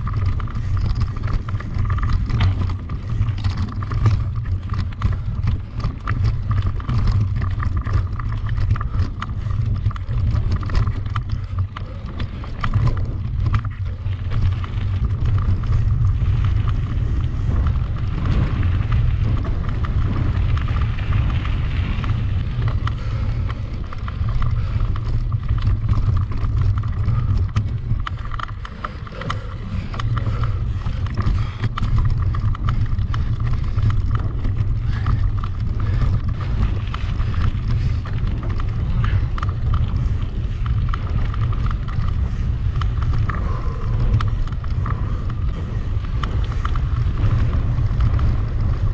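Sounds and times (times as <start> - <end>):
bike rattling over bumps: 0.0 - 48.9
wind rumble on microphone: 0.0 - 48.9.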